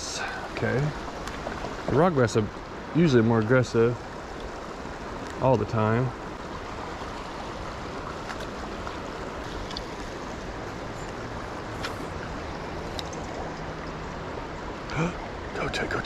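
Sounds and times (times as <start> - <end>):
creek rushing over stones: 0.0 - 16.0.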